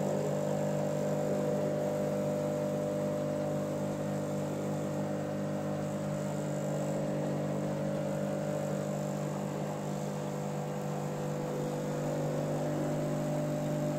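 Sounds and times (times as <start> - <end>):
pump electrical hum: 0.0 - 13.9.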